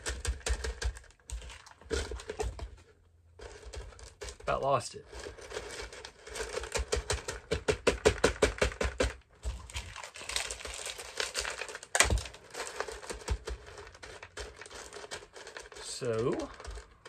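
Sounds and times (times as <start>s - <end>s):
clay pebbles clicking and rattling: 0.0s - 17.0s.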